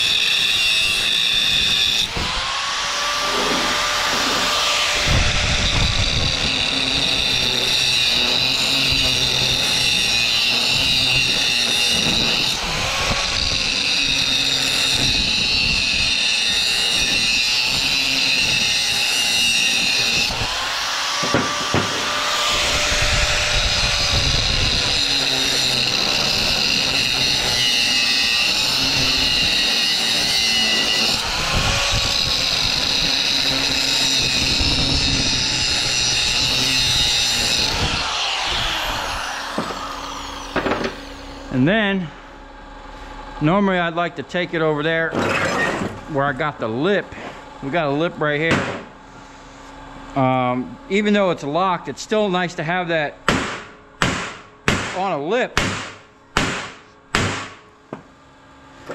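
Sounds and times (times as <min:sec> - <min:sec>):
grinder cutting metal: 0:00.0 - 0:48.5.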